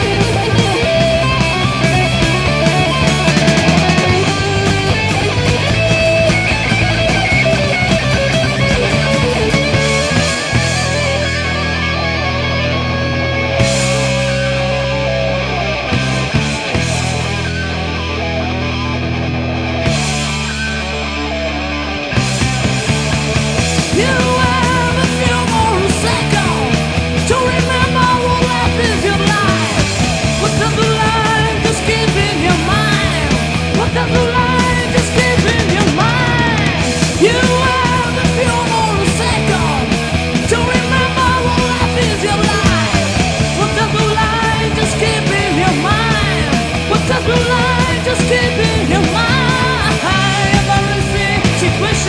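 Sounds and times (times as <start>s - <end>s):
heavy metal band playing: 0.0s - 52.0s
lead guitar bending notes: 0.0s - 52.0s.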